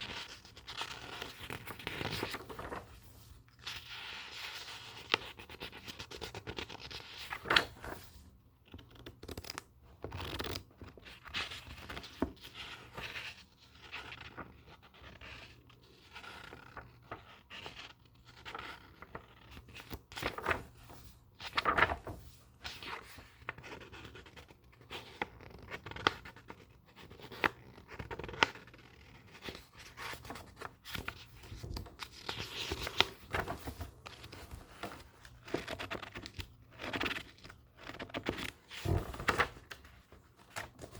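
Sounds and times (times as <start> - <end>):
book pages rustling: 0.0 - 14.6, 18.3 - 40.9.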